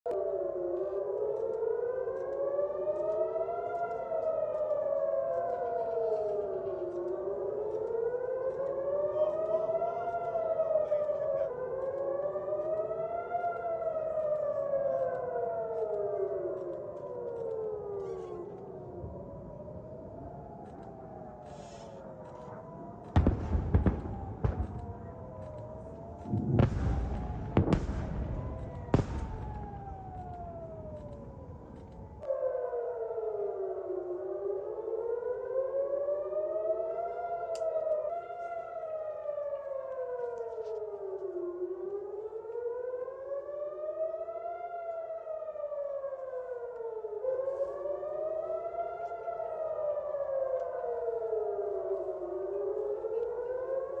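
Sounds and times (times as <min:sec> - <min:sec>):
air-raid sirens wailing: 0:00.1 - 0:54.0
loud siren blasts: 0:00.1 - 0:54.0.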